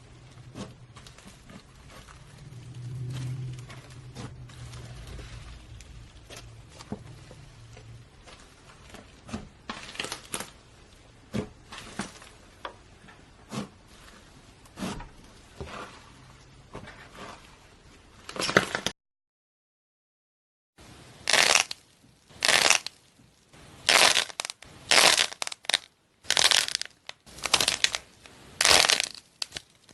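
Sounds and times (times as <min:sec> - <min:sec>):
slime squishing by hand: 0:00.0 - 0:18.9, 0:21.2 - 0:29.9.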